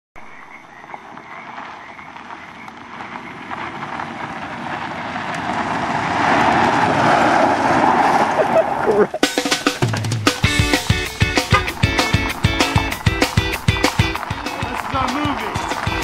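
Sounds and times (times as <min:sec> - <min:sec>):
car approaching: 0:00.2 - 0:16.0.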